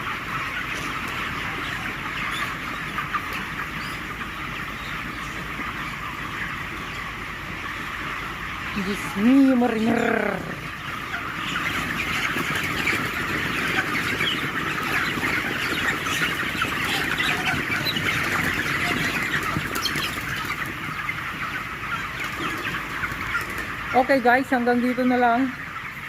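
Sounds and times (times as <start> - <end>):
chickens chirping and clucking: 0.0 - 26.0.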